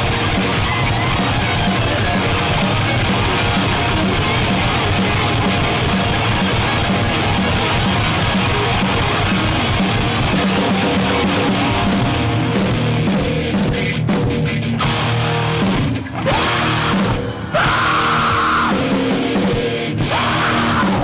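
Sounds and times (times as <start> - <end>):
heavy rock band playing: 0.0 - 21.0.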